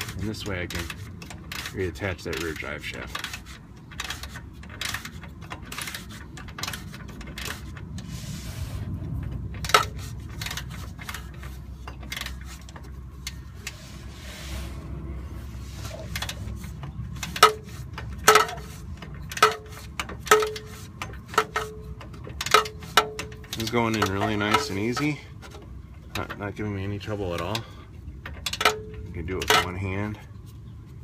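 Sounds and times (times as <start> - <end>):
hand tools and metal parts clinking: 0.0 - 31.0.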